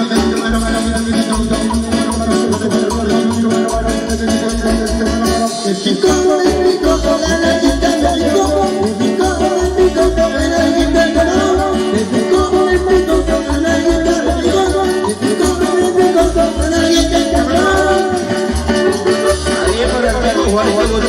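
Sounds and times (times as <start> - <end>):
latin dance music: 0.0 - 21.0.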